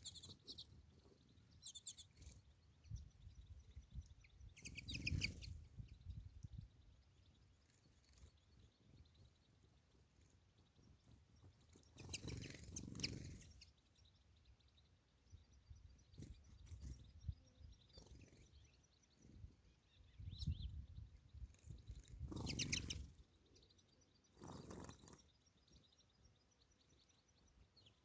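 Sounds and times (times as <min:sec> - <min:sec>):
finches twittering: 0:00.0 - 0:28.0.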